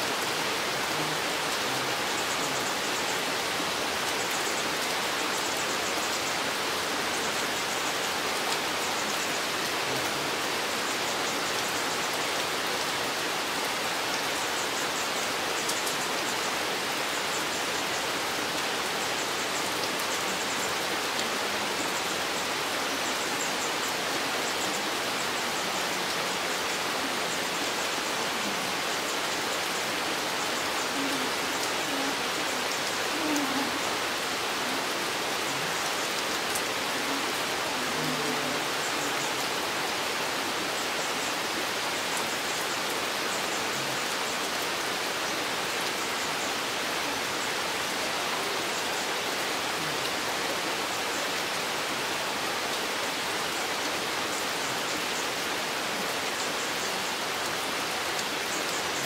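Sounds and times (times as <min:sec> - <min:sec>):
patter of raindrops: 0:00.0 - 0:59.0
steady rain hiss: 0:00.0 - 0:59.0.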